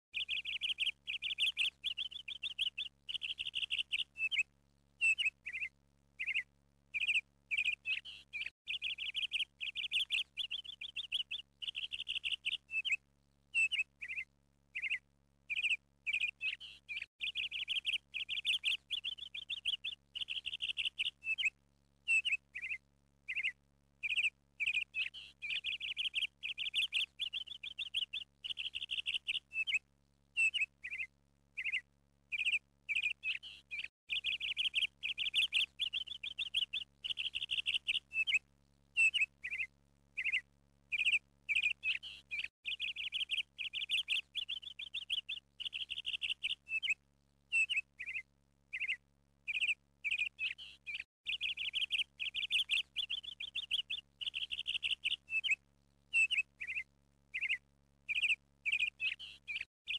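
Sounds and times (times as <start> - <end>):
small bird chirping and trilling: 0.1 - 59.9.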